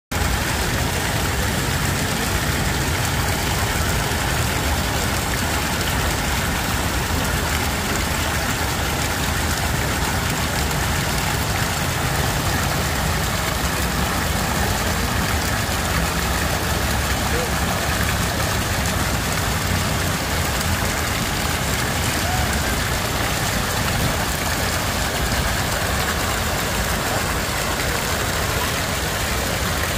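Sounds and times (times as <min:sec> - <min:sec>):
fountain water splashing into basin: 0:00.1 - 0:29.9.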